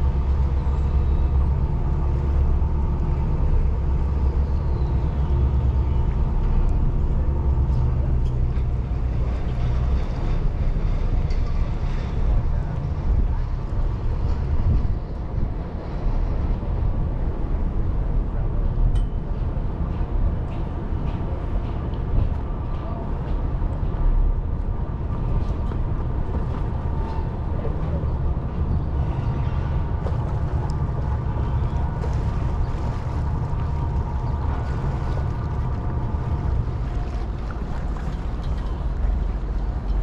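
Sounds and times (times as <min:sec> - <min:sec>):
ferry engines rumbling: 0:00.0 - 0:40.0.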